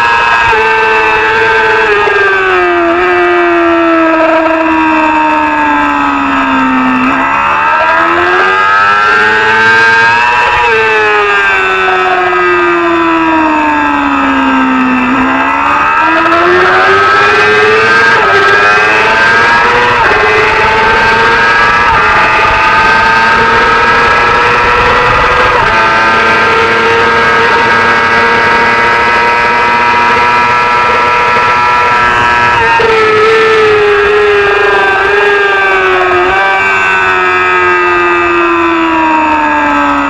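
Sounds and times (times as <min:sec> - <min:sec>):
racing motorcycle engine revving: 0:00.0 - 0:40.0.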